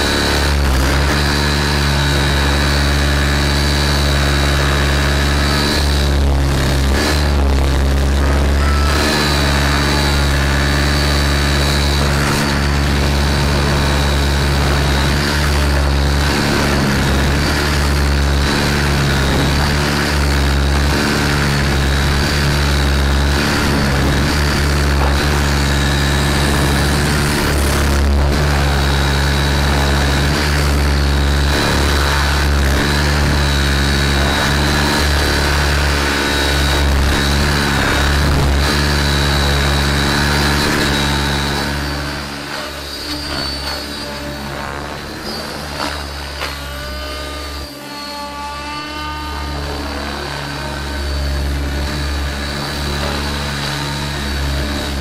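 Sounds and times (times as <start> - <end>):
electric motor whine: 0.0 - 55.0
model helicopter rotor buzz: 0.0 - 55.0.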